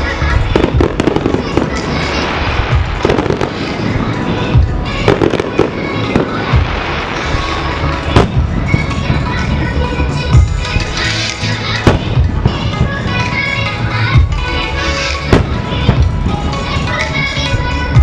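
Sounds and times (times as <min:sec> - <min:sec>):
firework crackle: 0:00.0 - 0:14.0, 0:14.8 - 0:17.6
firework bangs: 0:00.2 - 0:09.8, 0:10.4 - 0:14.4, 0:15.0 - 0:17.5.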